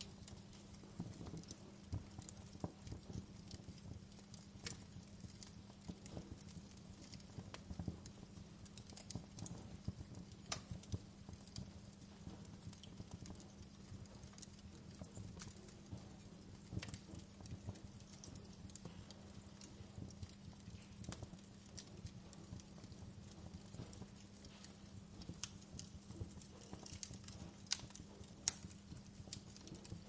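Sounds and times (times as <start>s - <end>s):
low steady hum: 0.0s - 30.0s
wood fire popping and snapping: 0.0s - 30.0s.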